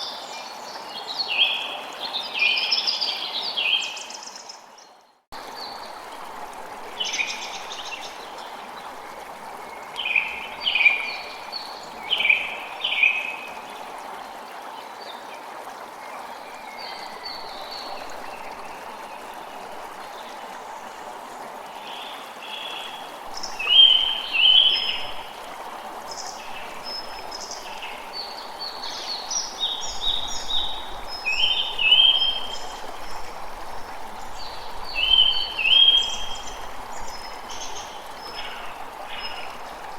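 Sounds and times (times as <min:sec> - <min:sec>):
songbirds chirping: 0:00.0 - 0:15.3, 0:16.0 - 0:39.9
stream running: 0:00.0 - 0:39.9.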